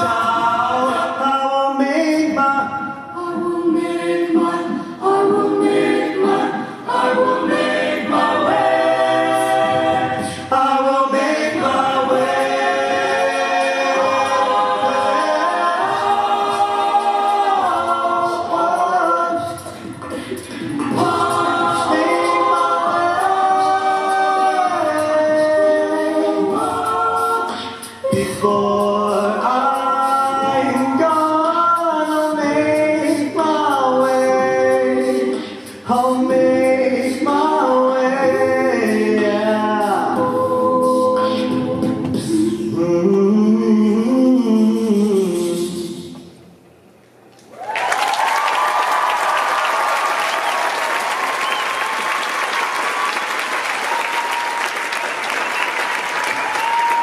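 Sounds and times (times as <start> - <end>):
a cappella group singing: 0.0 - 46.5
vocal percussion: 0.0 - 46.6.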